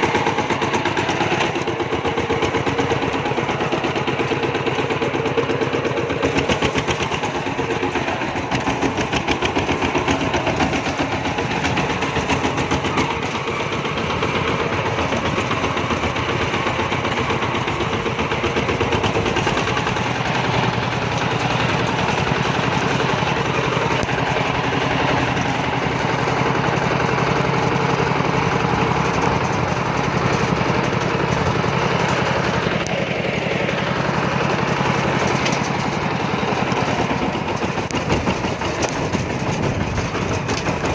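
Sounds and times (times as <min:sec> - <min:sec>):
single-cylinder diesel engine running: 0:00.0 - 0:40.9.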